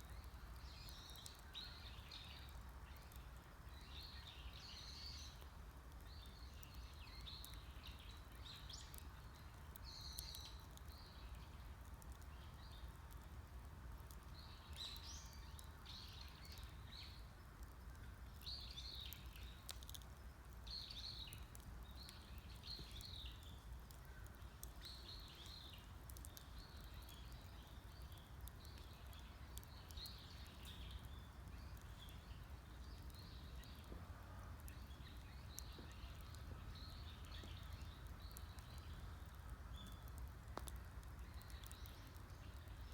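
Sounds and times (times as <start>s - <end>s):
campfire crackling and popping: 0.0s - 42.9s
small birds chirping: 0.0s - 42.9s.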